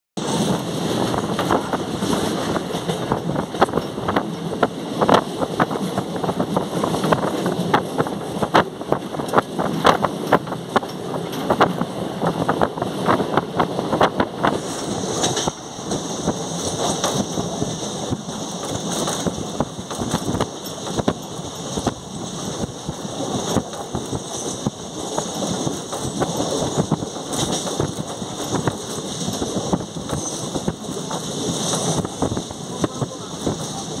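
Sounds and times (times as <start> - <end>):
train wheels rumbling and rattling: 0.2 - 34.0
sharp track clicks: 0.5 - 34.0.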